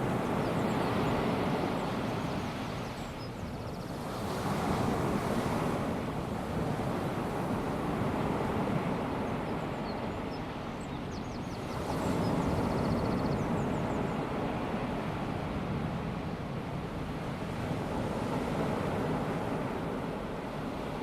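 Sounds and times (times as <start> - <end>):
small waves washing onto beach: 0.0 - 10.7, 11.6 - 21.0.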